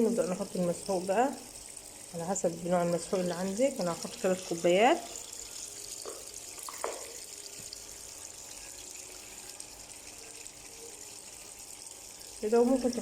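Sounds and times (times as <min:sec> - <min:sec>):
water running into washing machine: 0:00.0 - 0:13.0.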